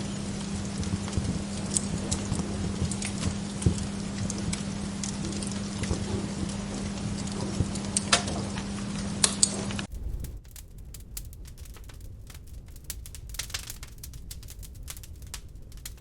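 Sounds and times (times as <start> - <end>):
log fire crackling: 0.0 - 16.0
low steady hum: 0.0 - 16.0.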